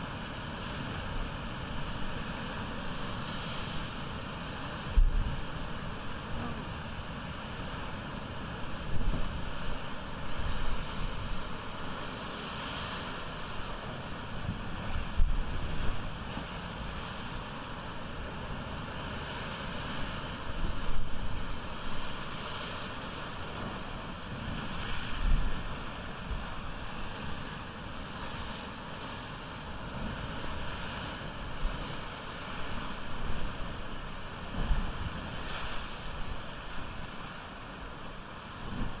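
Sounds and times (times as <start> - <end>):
ocean surf washing in: 0.0 - 39.0.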